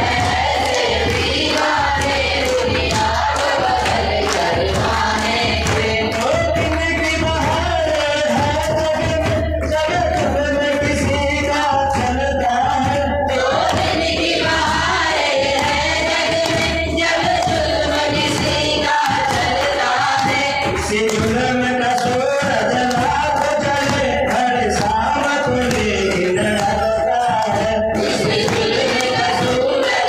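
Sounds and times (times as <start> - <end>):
people singing: 0.0 - 30.0.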